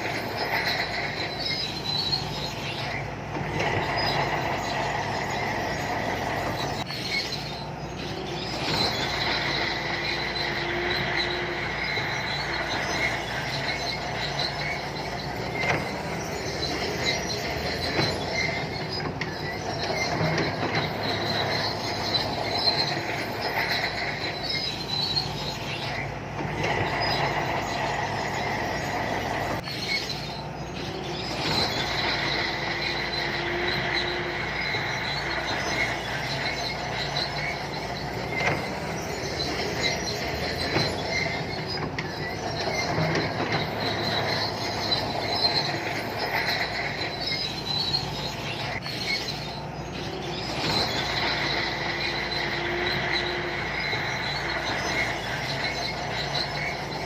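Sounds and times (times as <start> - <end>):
bulldozer diesel engine running: 0.0 - 57.0
steel tracks squealing: 0.0 - 57.0.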